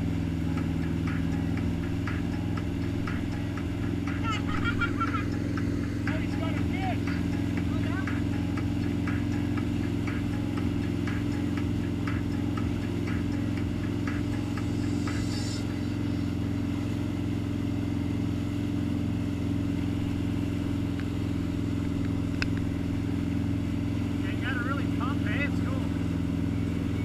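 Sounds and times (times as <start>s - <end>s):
boat engine droning: 0.0s - 27.0s
rush of boat wake: 0.0s - 27.0s.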